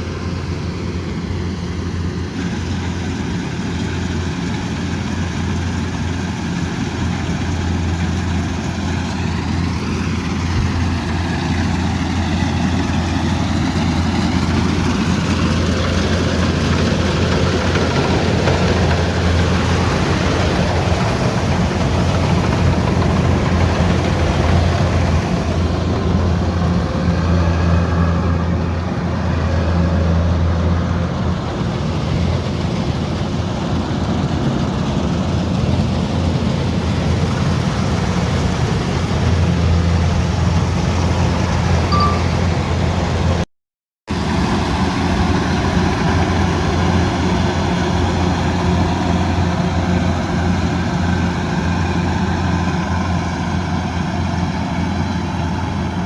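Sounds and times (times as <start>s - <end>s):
combine harvester diesel drone: 0.0s - 43.4s, 44.1s - 56.0s.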